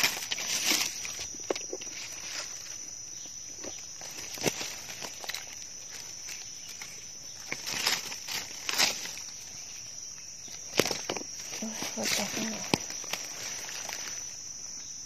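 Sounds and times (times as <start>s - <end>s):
dry leaves rustling: 0.0s - 15.0s
insects buzzing: 0.0s - 15.0s.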